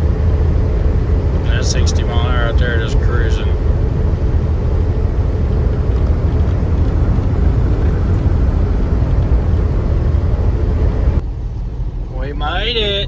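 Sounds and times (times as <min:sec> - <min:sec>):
road rumble: 0:00.0 - 0:13.0
truck engine: 0:00.0 - 0:13.0.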